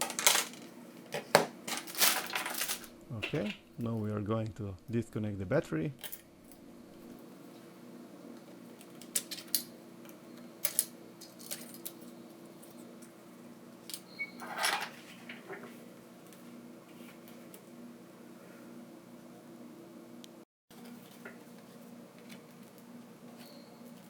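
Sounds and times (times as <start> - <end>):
steady low hum: 0.2 - 24.0.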